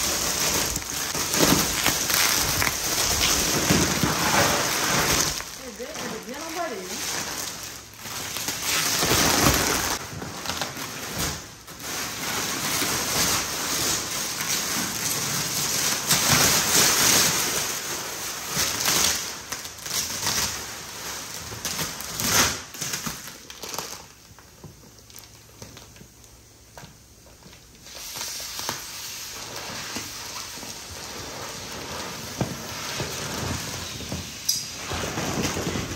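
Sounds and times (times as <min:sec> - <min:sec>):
plastic wrapping crinkling: 0:00.0 - 0:35.9.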